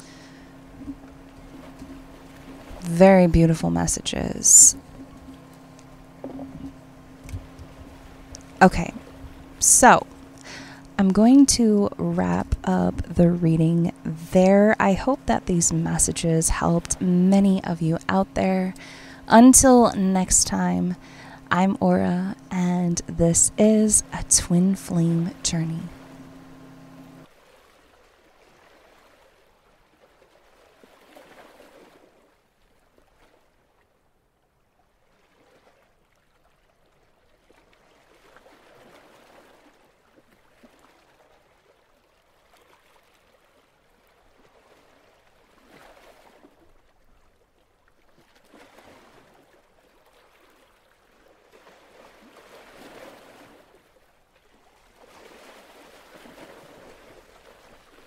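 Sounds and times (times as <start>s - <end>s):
gentle waves: 0.0s - 58.0s.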